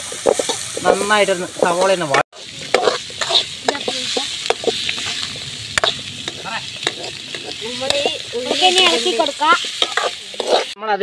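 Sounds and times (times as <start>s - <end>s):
ladle scraping the pan: 0.0s - 10.8s
onions sizzling in hot oil: 0.0s - 11.0s.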